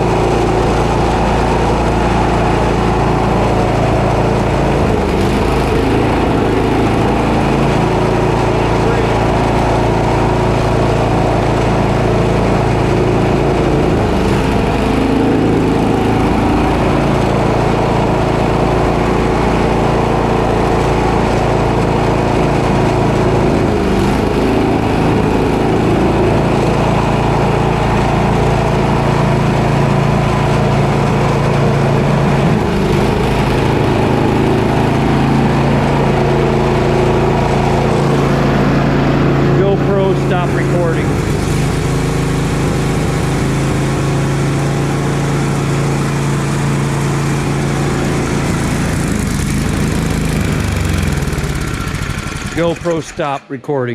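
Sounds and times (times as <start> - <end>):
snowblower engine running: 0.0 - 53.5.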